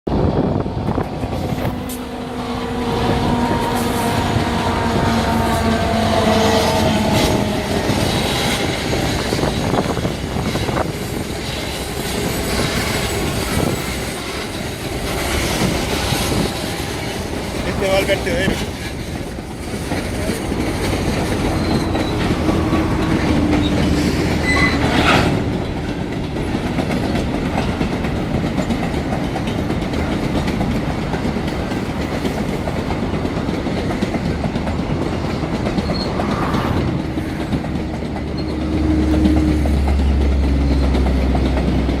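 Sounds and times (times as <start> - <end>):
freight train wheels on rails: 0.1 - 42.0.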